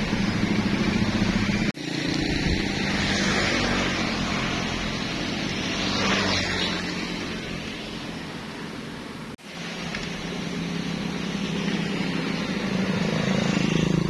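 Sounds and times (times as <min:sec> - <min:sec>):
low engine hum: 0:00.0 - 0:14.0
road and wind noise: 0:00.0 - 0:14.0.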